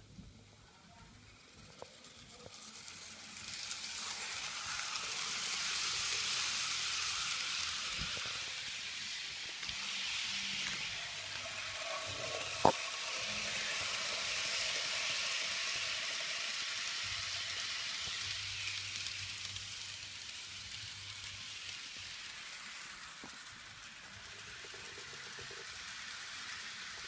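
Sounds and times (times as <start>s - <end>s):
model train motor whirring: 0.0s - 27.0s.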